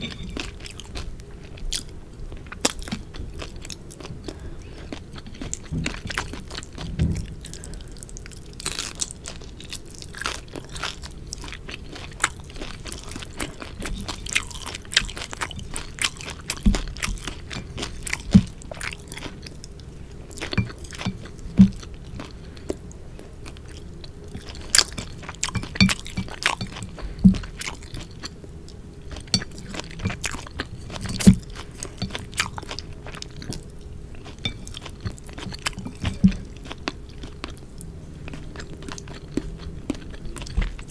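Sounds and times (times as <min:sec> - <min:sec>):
person chewing wet food: 0:00.0 - 0:40.9.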